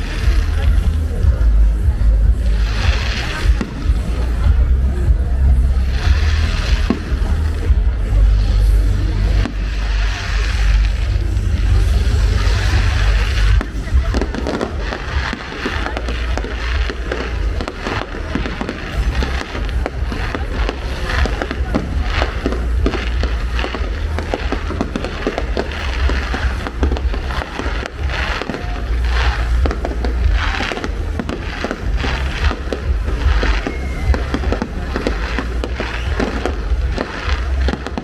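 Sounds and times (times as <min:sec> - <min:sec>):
firework shell bursts and crackling: 0:00.0 - 0:38.0
low rumble: 0:00.0 - 0:38.0.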